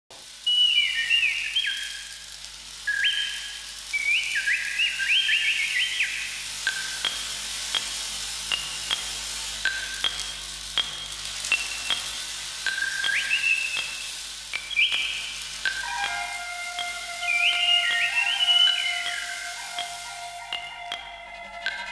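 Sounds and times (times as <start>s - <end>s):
rain-like hiss from bamboo tray: 0.1s - 21.9s
sharp chirps: 0.5s - 2.2s, 2.8s - 21.8s
whistled bird calls: 0.5s - 7.9s, 8.5s - 9.1s, 9.7s - 21.9s.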